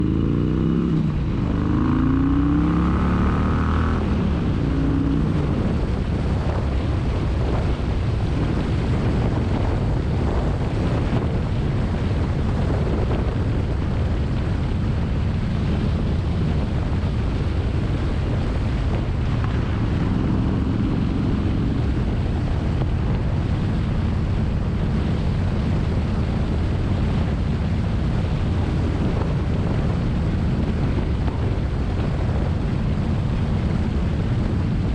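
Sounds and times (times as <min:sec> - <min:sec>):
motorcycle engine accelerating: 0:00.0 - 0:34.9
wind noise on microphone: 0:00.0 - 0:34.9.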